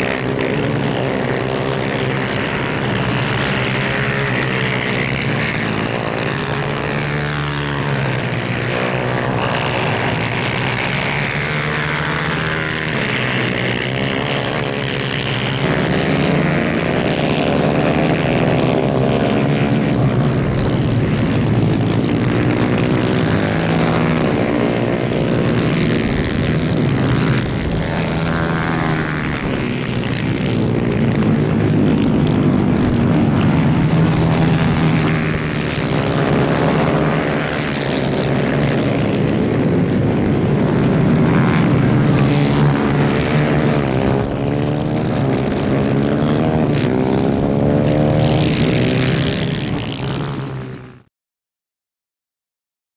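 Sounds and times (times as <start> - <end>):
kart engines racing: 0.0 - 51.1.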